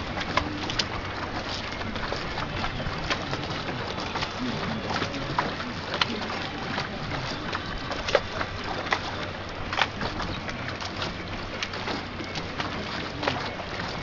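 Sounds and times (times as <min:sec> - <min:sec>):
wind and sea rushing: 0:00.0 - 0:14.0.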